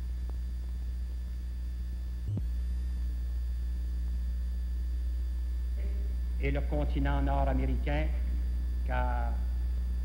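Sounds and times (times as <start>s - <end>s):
faint high steady tones: 0.0s - 10.0s
low electrical hum: 0.0s - 10.0s.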